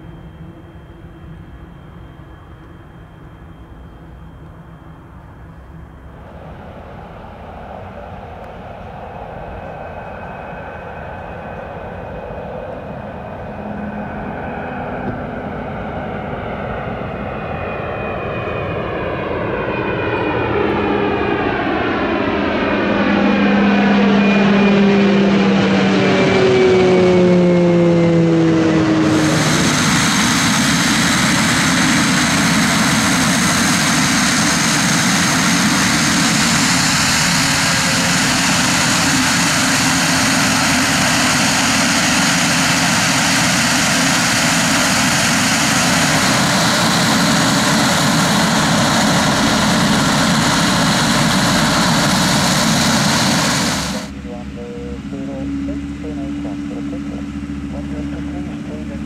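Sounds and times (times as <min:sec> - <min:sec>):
high turbine whine: 0:00.0 - 0:59.0
propeller drone on ground: 0:00.0 - 0:59.0
propeller plane flying overhead: 0:00.0 - 0:59.0.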